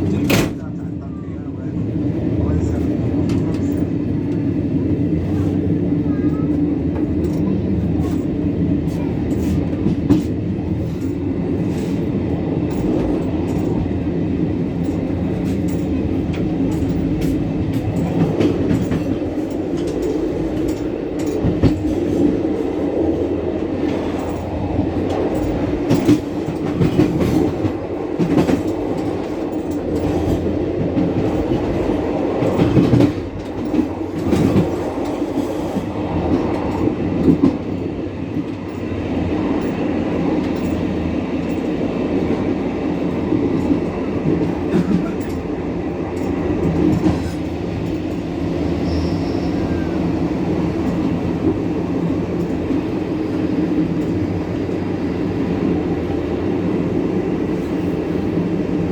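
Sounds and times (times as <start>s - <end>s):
train rumbling along track: 0.0s - 58.9s
wheels clicking on rails: 5.2s - 58.8s.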